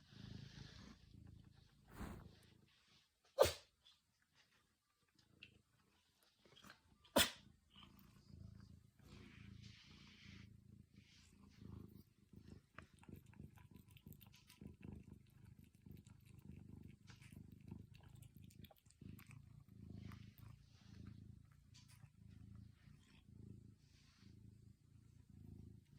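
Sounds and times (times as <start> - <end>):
cat purring: 0.0 - 3.1, 4.3 - 25.9.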